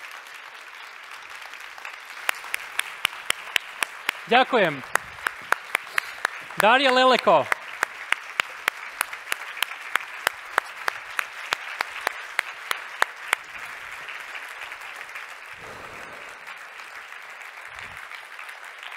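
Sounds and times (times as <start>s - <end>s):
audience applauding: 0.0s - 18.9s
nearby hands clapping sharply: 0.0s - 18.9s.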